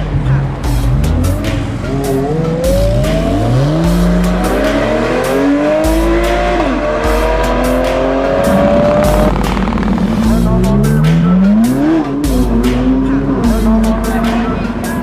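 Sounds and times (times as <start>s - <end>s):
bass-heavy background music: 0.0s - 15.0s
car engine accelerating: 0.0s - 15.0s.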